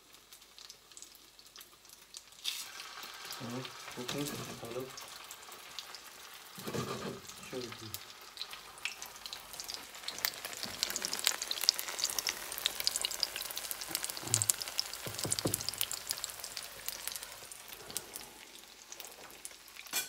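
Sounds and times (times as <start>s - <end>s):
patties sizzling in oil: 0.0s - 20.0s.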